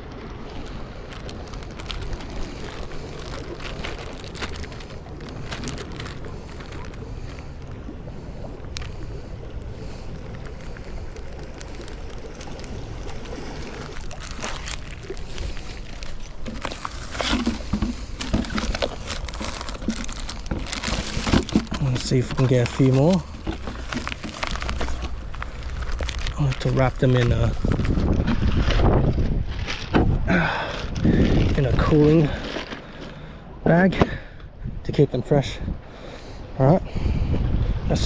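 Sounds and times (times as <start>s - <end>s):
water washing against rocks: 0.0s - 33.0s.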